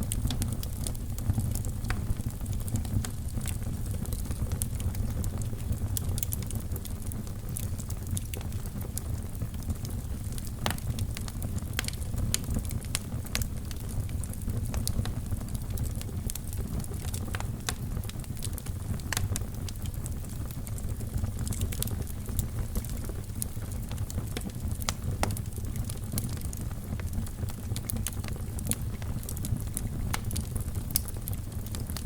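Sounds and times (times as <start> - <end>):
fire flames rumbling: 0.0 - 32.0
wood fire crackling and popping: 0.0 - 32.0.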